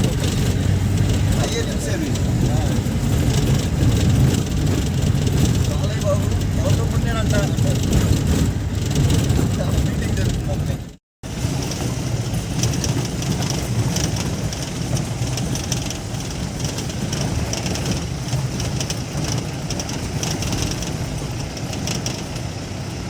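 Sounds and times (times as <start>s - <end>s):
clattering and rattling: 0.0s - 23.0s
vehicle engine rumble: 0.0s - 23.0s.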